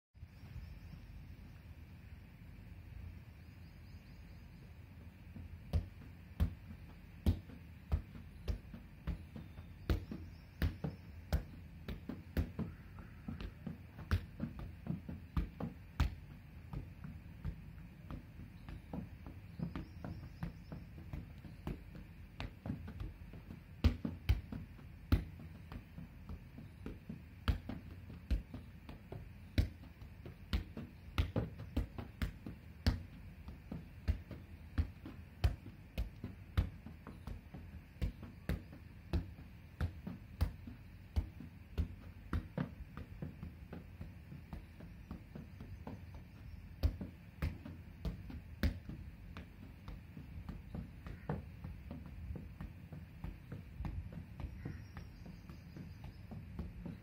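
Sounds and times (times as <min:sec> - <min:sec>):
ball tapping on knee: 0:05.2 - 0:57.0.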